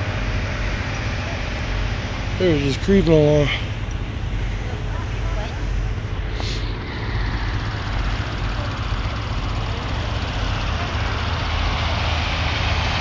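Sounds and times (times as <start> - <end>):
road and wind noise hiss: 0.0 - 13.0
traffic engine drone: 0.0 - 13.0.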